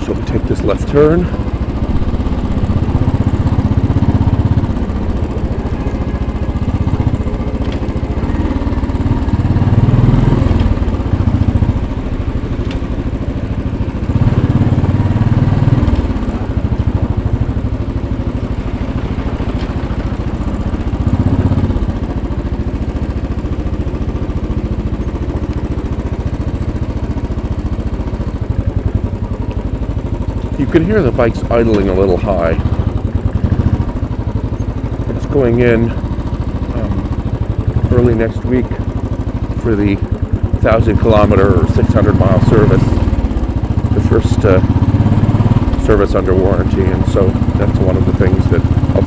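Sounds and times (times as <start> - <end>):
motorcycle engine revving and idling: 0.0 - 49.0.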